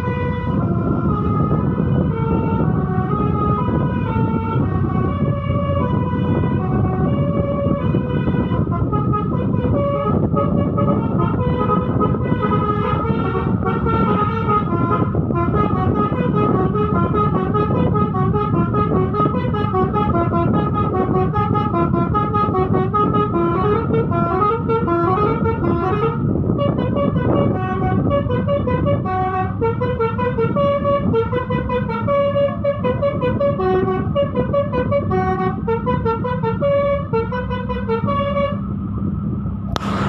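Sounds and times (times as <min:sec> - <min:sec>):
bus musical horn tune: 0:00.0 - 0:38.8
bus engine hum: 0:00.0 - 0:40.0.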